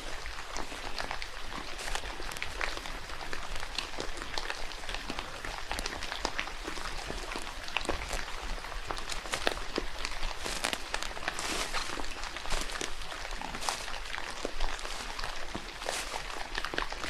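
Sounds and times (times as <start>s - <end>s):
rain hissing in forest: 0.0s - 17.0s
water drips pattering: 0.0s - 17.0s.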